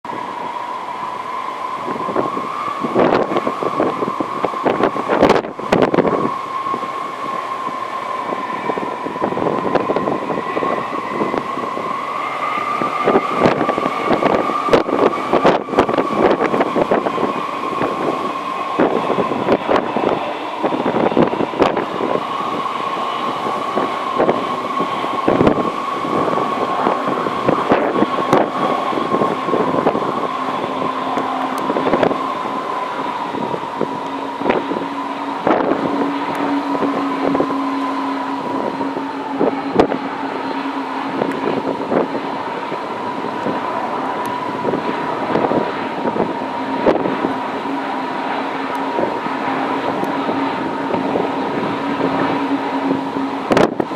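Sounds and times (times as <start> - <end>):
jet engine whine: 0.0 - 53.9
low jet drone: 0.0 - 53.9
wind on microphone: 0.0 - 53.9.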